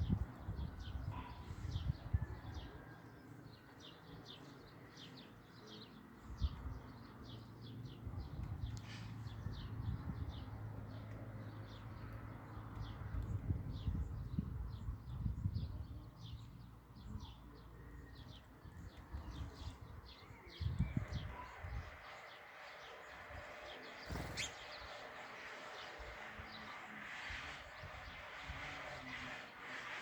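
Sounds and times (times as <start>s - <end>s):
small birds chirping: 3.6s - 30.0s.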